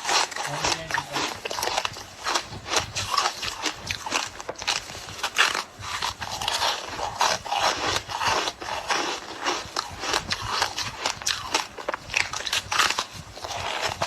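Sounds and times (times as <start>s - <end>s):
ice crunching in mouth: 0.0s - 14.0s.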